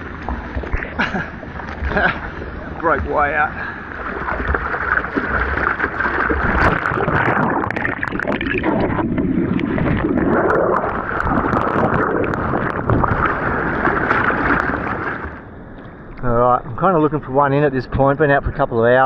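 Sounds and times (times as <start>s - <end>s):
ocean water splashing and rushing: 0.0s - 16.2s.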